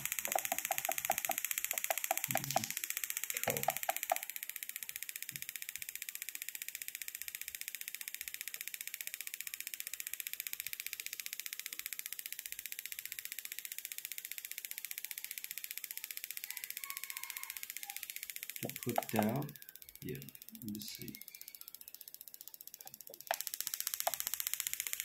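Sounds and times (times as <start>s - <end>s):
ignition coil sparks ticking: 0.0s - 16.4s, 17.6s - 25.0s.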